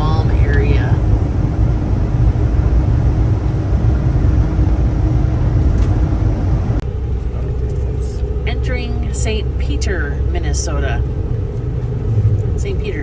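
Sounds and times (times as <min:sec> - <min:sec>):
van road and engine noise: 0:00.0 - 0:13.0.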